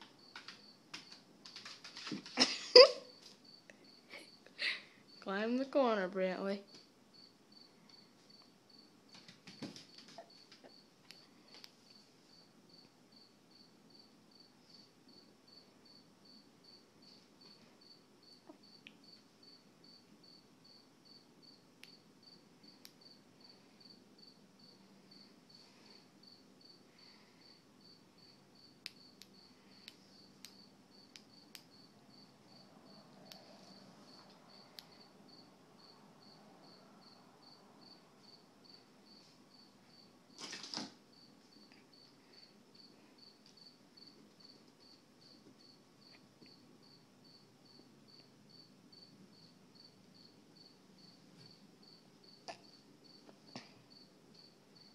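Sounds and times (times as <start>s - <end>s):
cricket chirping: 0.0s - 5.2s, 6.6s - 54.9s.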